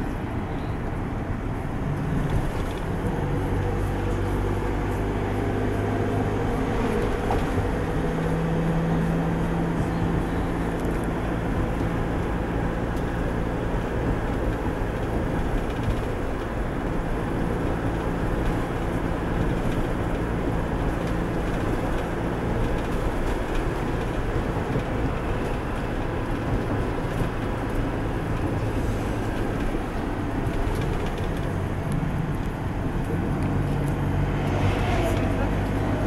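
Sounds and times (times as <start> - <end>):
low engine hum: 0.0 - 36.0
rolling tyre noise: 0.0 - 36.0.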